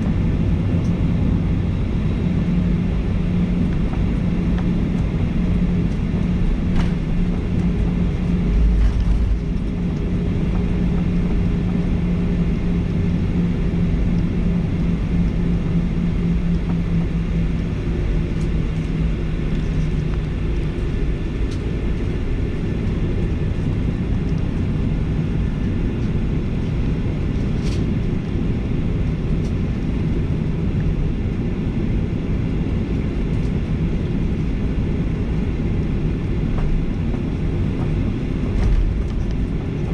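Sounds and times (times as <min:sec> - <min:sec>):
jet engines idling hum: 0:00.0 - 0:39.9
low rumble of airframe and wheels: 0:00.0 - 0:39.9.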